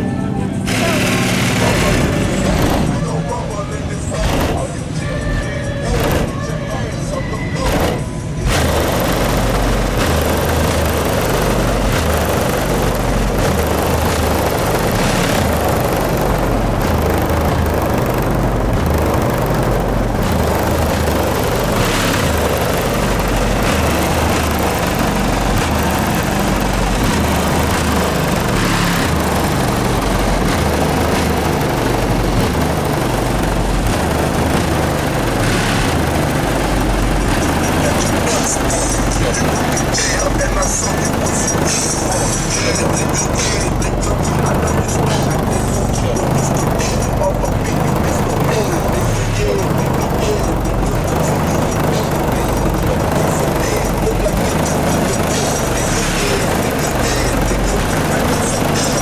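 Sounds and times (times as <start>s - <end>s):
subwoofer bass-heavy music: 0.0s - 59.0s.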